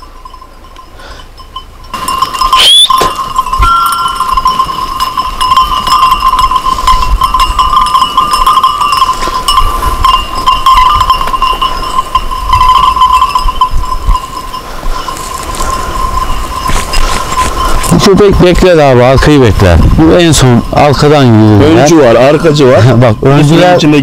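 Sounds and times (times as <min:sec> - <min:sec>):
sheep bells jingling: 0:00.0 - 0:24.0.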